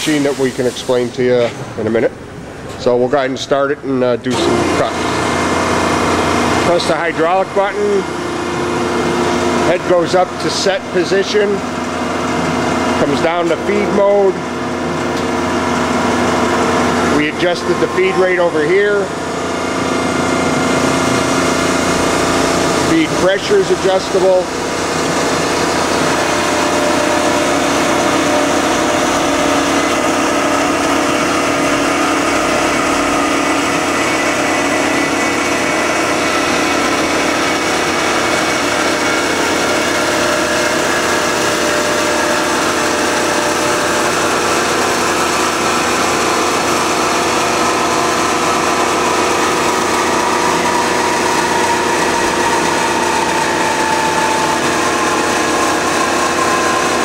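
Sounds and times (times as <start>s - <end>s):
band saw cutting through tube: 4.4s - 57.0s.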